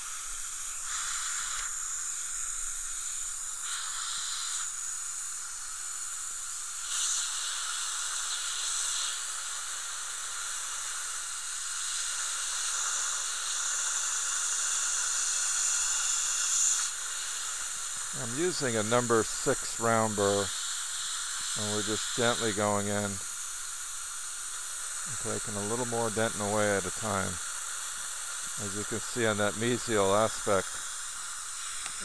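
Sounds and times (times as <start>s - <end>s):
dental drill high hiss: 0.0s - 32.0s.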